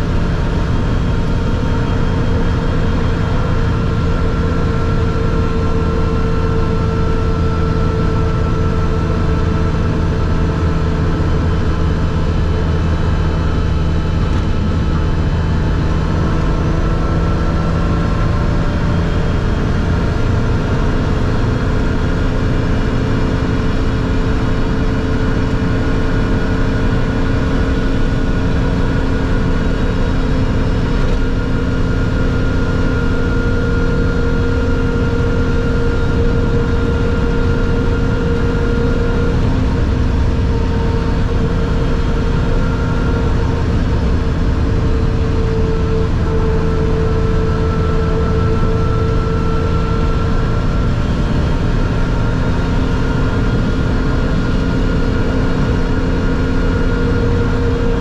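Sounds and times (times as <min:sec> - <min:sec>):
car engine running: 0:00.0 - 0:58.0
road and tyre noise: 0:00.0 - 0:58.0.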